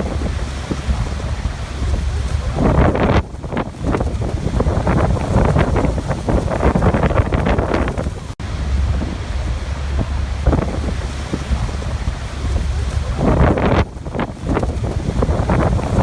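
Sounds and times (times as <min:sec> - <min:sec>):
waterfall rushing: 0:00.0 - 0:16.0
wind buffeting microphone: 0:00.0 - 0:16.0.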